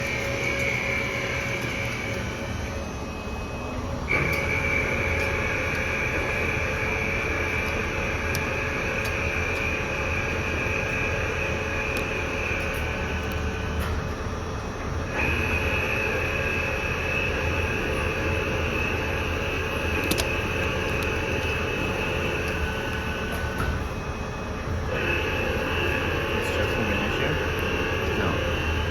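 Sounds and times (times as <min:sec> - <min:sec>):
cutting tool whine: 0:00.0 - 0:14.4, 0:15.0 - 0:28.9
metal lathe running: 0:00.0 - 0:28.9.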